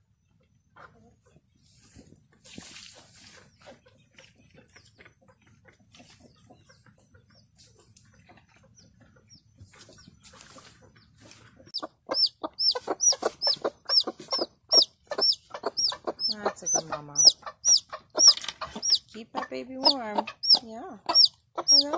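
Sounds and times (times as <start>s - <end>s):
hens clucking: 0.5s - 21.9s
chick peeping loudly: 2.5s - 21.9s.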